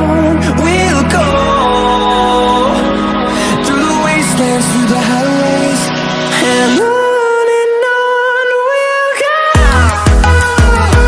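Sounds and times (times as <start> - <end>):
background song: 0.0 - 11.0.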